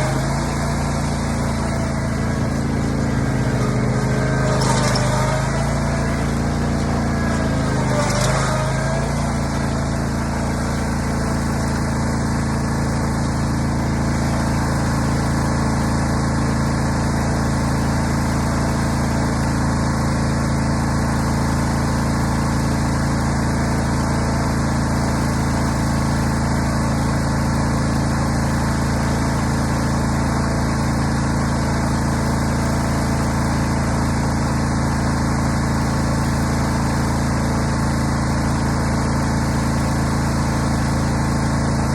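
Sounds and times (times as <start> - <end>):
riding lawn mower engine running: 0.0 - 41.9.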